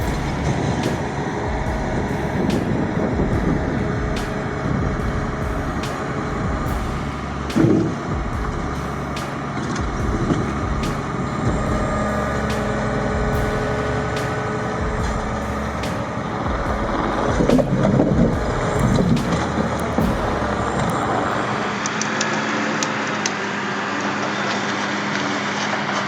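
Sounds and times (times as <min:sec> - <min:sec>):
heavy truck engine running: 0:00.0 - 0:25.8.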